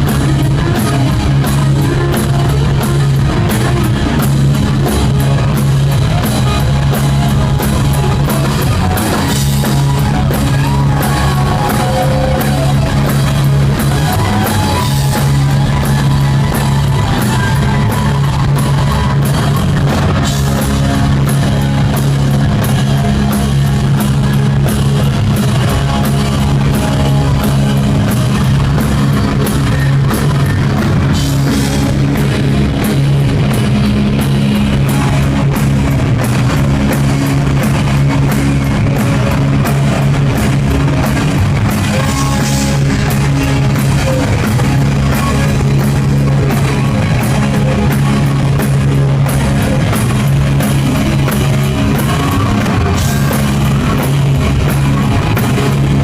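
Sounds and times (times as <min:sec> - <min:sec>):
bass: 0:00.0 - 0:56.0
drum kit: 0:00.0 - 0:56.0
electric guitar: 0:00.0 - 0:56.0.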